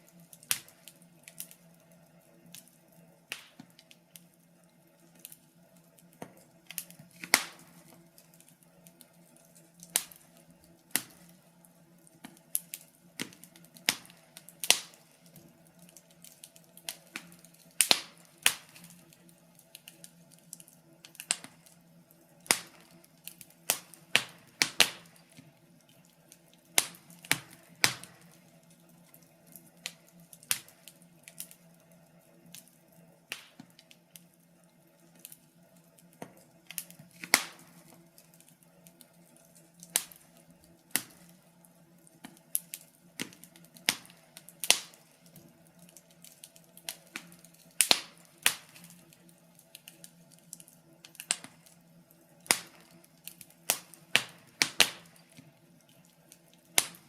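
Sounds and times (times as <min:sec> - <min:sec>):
sharp pops and snaps: 0:00.0 - 0:01.9, 0:03.3 - 0:04.3, 0:05.1 - 0:11.4, 0:12.0 - 0:21.8, 0:22.4 - 0:31.8, 0:33.3 - 0:34.3, 0:35.1 - 0:41.4, 0:42.0 - 0:51.8, 0:52.4 - 0:57.0
wood fire crackling: 0:00.0 - 0:57.0.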